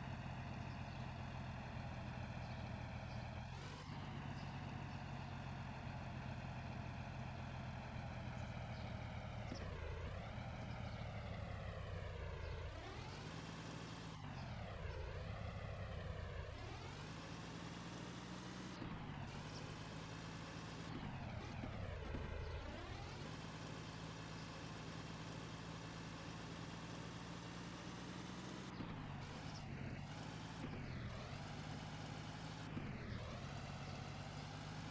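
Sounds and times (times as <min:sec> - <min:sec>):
tractor engine running under load: 0:00.0 - 0:34.9.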